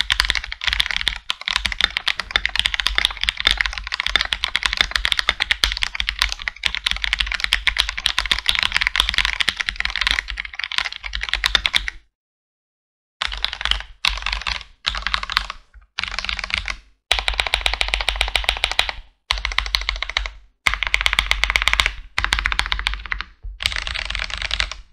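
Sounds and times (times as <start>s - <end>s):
fast mechanical keyboard typing: 0.0s - 12.0s, 13.2s - 24.9s.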